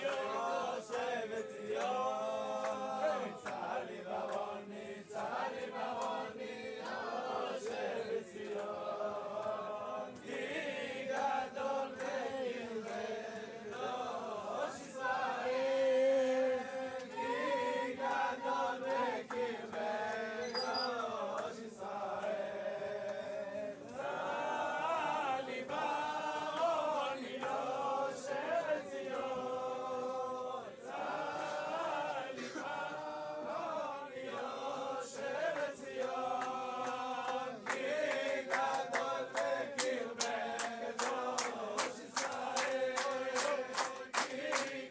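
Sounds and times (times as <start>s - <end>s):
men singing a religious song: 0.0s - 44.9s.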